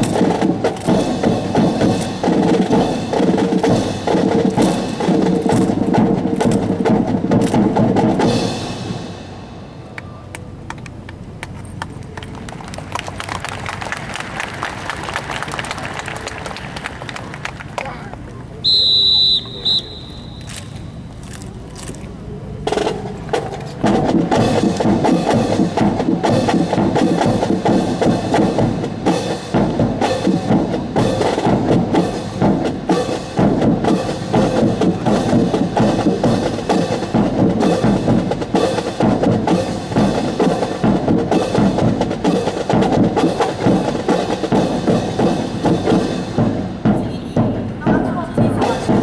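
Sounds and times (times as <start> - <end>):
marching drums cadence: 0.0 - 49.0.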